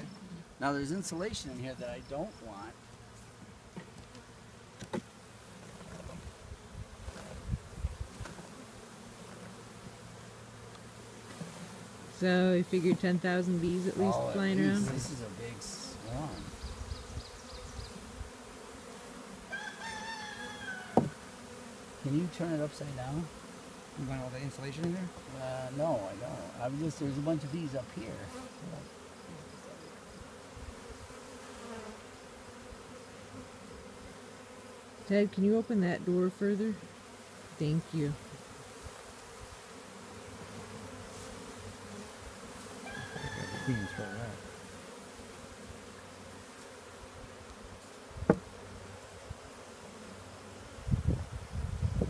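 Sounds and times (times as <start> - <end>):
swarm of bees buzzing: 0.0 - 52.0.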